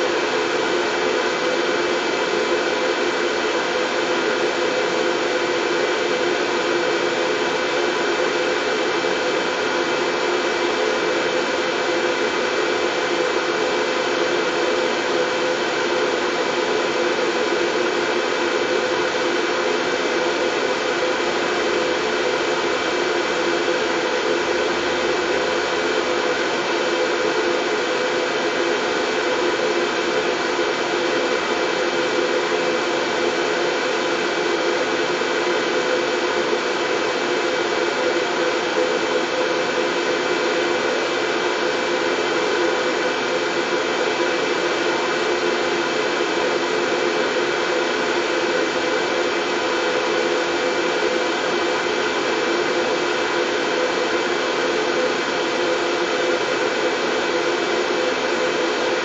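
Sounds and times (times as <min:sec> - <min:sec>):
white noise: 0:00.0 - 0:59.0.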